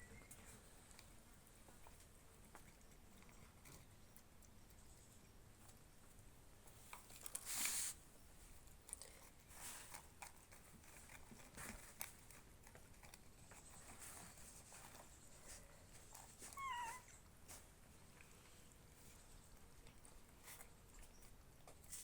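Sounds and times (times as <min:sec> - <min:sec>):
cats rustling and tapping: 0:00.1 - 0:22.0.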